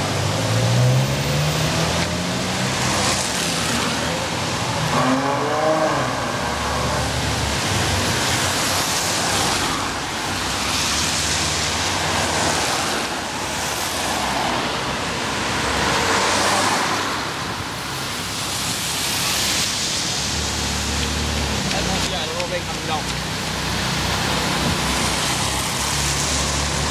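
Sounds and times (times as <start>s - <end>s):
car engines rumbling low: 0.0s - 26.9s
tyres hissing on wet road: 0.0s - 26.9s.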